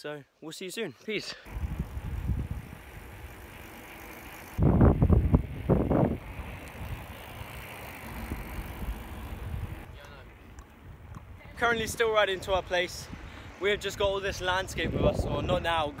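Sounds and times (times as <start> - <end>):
wind rumbling on microphone: 1.5 - 3.7, 4.5 - 16.0
wind buffeting: 1.5 - 16.0.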